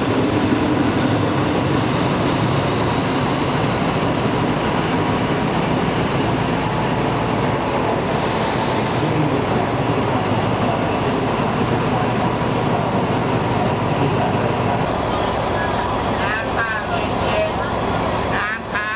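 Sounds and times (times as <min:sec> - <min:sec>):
passenger train running: 0:00.0 - 0:18.9.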